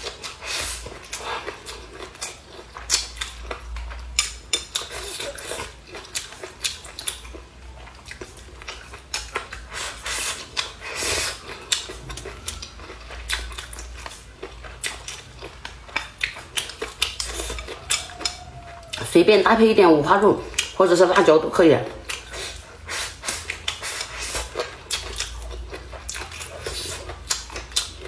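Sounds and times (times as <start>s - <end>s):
person chewing: 0.0s - 19.1s, 20.4s - 20.8s, 21.9s - 28.0s.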